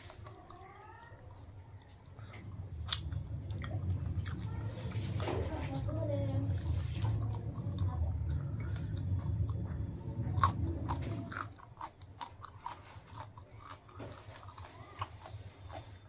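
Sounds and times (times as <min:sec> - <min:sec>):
person chewing food: 0:00.0 - 0:05.2, 0:06.5 - 0:16.0
low steady hum: 0:00.0 - 0:16.0.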